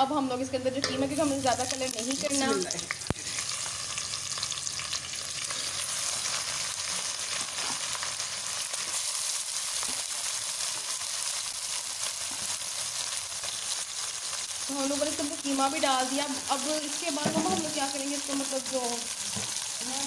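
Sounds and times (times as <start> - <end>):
meat sizzling in a pot: 0.7 - 20.0.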